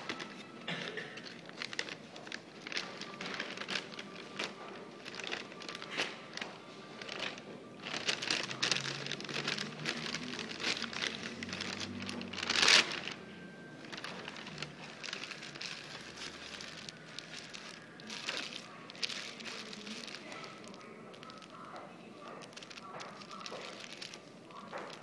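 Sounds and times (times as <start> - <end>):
paper bag rustling and crinkling: 0.0 - 25.0
paper wrapper crinkling: 0.0 - 25.0.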